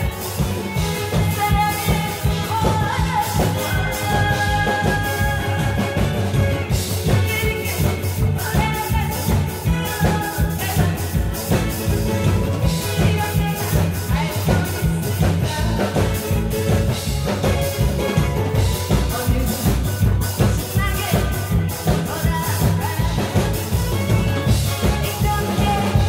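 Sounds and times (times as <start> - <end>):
woman singing into a microphone: 0.0 - 16.6, 18.6 - 26.0
backing track with driving beat: 0.0 - 26.0.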